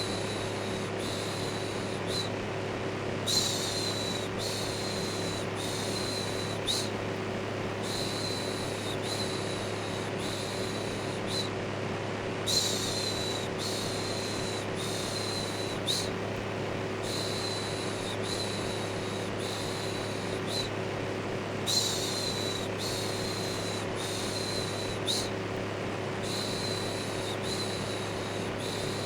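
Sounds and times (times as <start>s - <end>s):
electric fan whirring: 0.0s - 29.0s.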